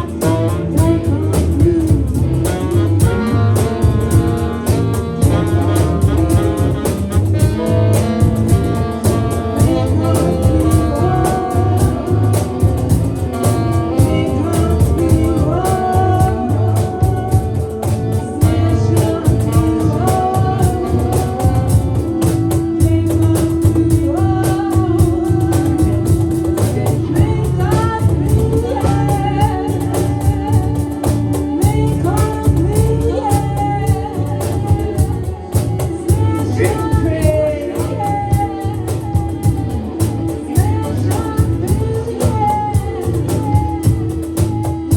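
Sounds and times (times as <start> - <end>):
person singing: 0.0 - 44.9
psychedelic rock band playing live: 0.0 - 44.9.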